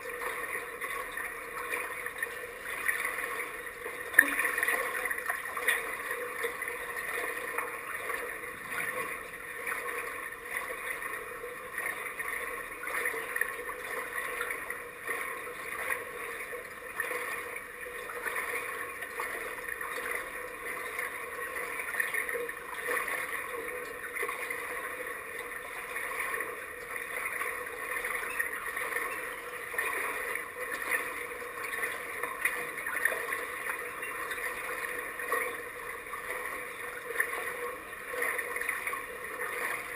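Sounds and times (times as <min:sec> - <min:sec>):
pool water lapping and gurgling: 0:00.0 - 0:39.9
small water splashes: 0:00.0 - 0:39.9.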